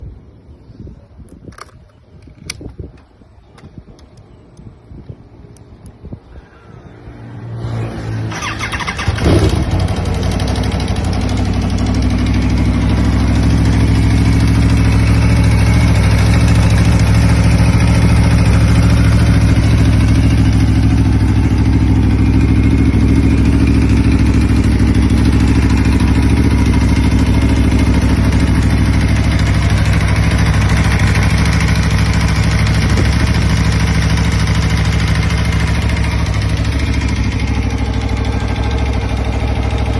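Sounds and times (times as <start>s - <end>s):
motorcycle engine cranking and idling: 1.2s - 6.2s, 8.3s - 39.9s.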